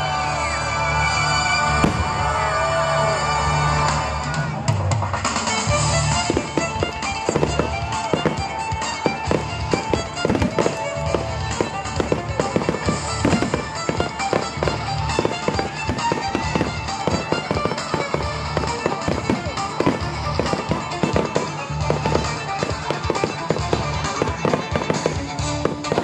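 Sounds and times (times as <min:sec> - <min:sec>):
loud music: 0:00.0 - 0:26.0
fireworks bangs and crackles: 0:01.6 - 0:26.0.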